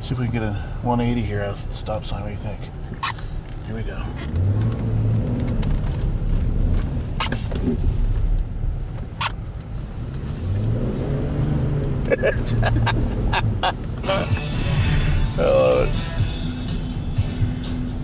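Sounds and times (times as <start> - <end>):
car engine revving: 1.6 - 18.0.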